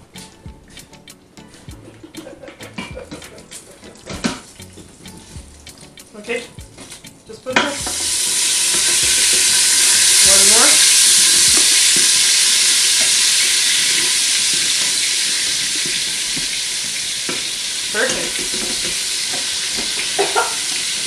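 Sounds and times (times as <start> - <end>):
garlic sizzling: 0.0 - 21.0.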